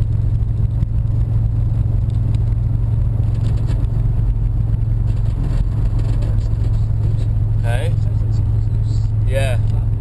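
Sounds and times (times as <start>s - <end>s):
car engine running: 0.0s - 10.0s
faint engine clatter: 0.0s - 10.0s.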